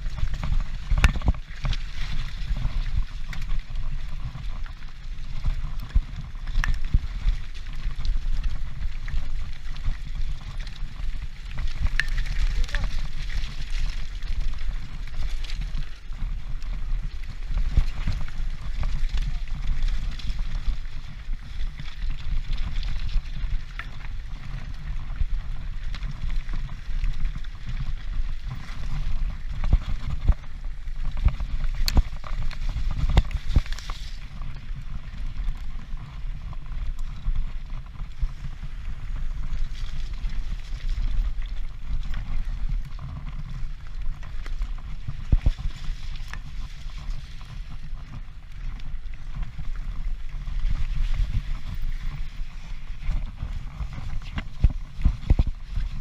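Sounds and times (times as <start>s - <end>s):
wind rumbling over camera: 0.0s - 56.0s.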